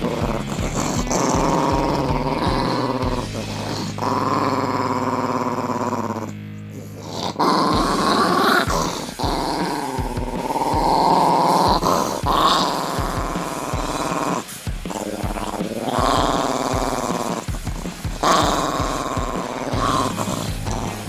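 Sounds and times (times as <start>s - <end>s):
small dog growling: 0.0s - 21.0s.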